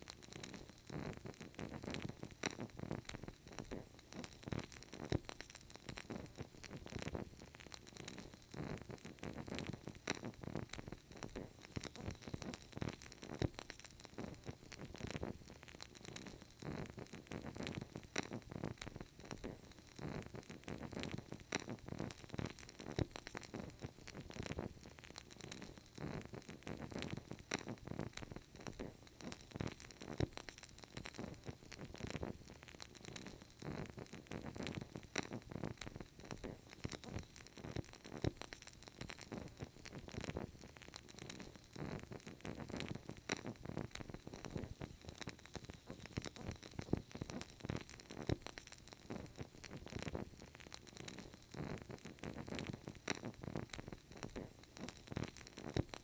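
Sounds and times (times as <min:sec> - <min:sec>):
candle crackling: 0:00.0 - 0:56.0.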